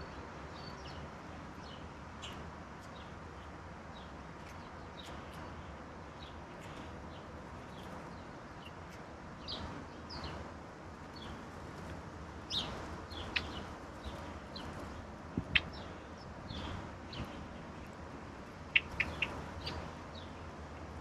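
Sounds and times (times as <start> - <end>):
low background noise: 0.0 - 21.0
songbirds chirping: 0.0 - 21.0.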